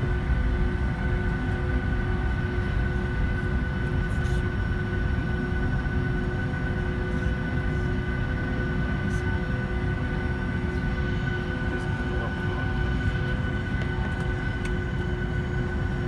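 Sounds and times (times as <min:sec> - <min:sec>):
aircraft cabin rumble: 0:00.0 - 0:16.0
jet engine whine: 0:00.0 - 0:16.0.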